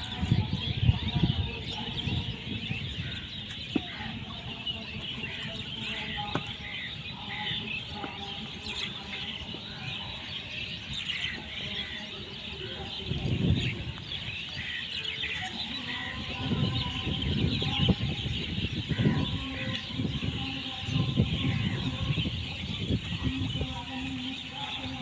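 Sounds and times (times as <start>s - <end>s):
chorus of high animal calls: 0.0s - 25.0s.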